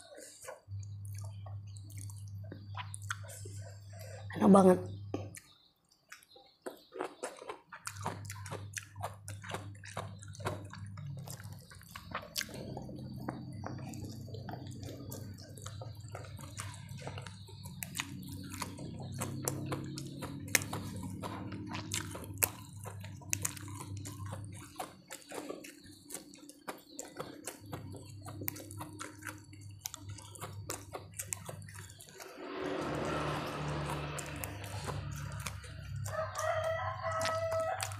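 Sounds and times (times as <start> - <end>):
person chewing with mouth smacks: 0.0 - 4.3, 5.1 - 37.9.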